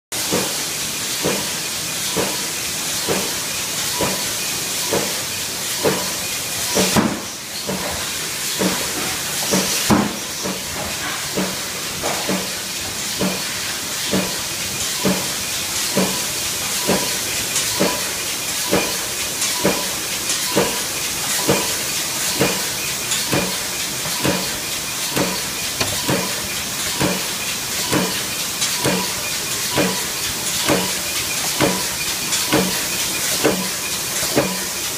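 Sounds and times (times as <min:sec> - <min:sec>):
steady machine hiss: 0:00.2 - 0:34.9.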